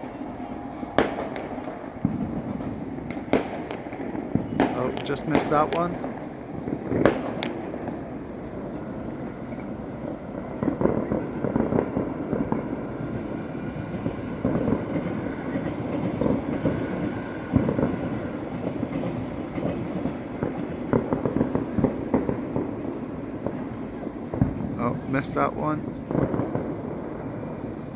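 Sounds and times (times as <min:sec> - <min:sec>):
distant fireworks crackling: 0:00.0 - 0:27.9
loud firework bangs: 0:01.0 - 0:08.2, 0:10.0 - 0:13.2, 0:13.8 - 0:27.8.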